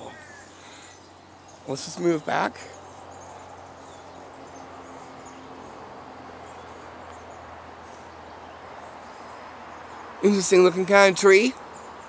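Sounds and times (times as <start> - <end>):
steady woodland hiss: 0.0 - 12.0.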